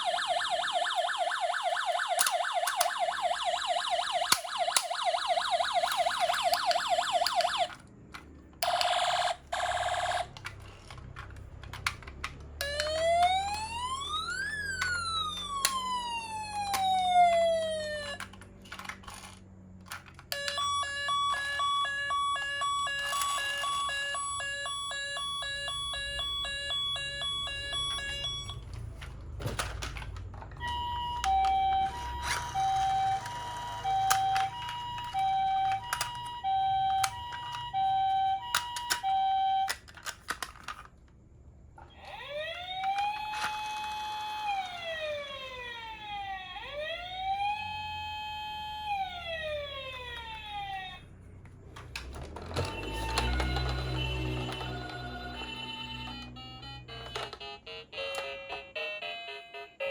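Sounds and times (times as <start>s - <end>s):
toy ambulance siren: 0.0s - 7.9s, 8.6s - 11.0s, 11.8s - 40.9s, 41.8s - 59.9s.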